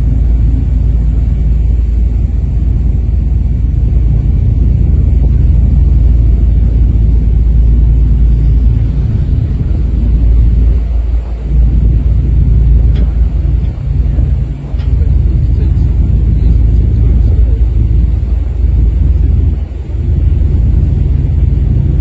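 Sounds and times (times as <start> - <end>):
ferry low rumble: 0.0 - 22.0.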